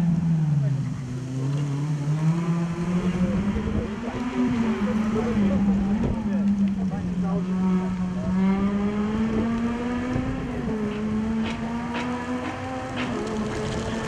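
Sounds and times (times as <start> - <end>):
rally car engine revving high: 0.0 - 14.0.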